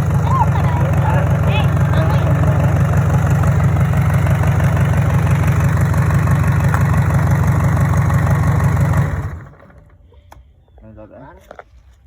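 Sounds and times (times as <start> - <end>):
diesel engine idling: 0.0 - 10.1.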